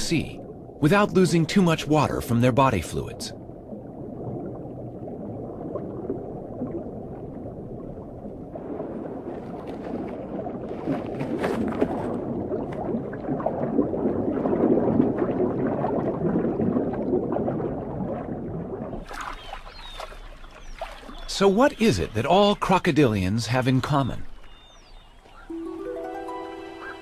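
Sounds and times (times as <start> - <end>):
sea water sloshing and gurgling: 0.0 - 25.6.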